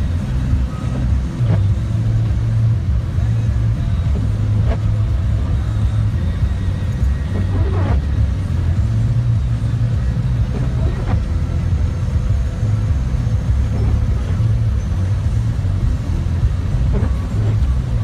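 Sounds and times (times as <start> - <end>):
car driving on snowy road: 0.0 - 18.0.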